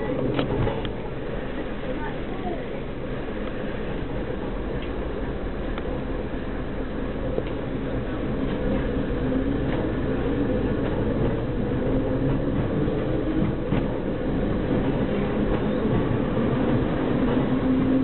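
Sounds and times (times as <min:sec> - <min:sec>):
train engine hum: 0:00.0 - 0:18.0
wheel and rail noise: 0:00.0 - 0:18.0.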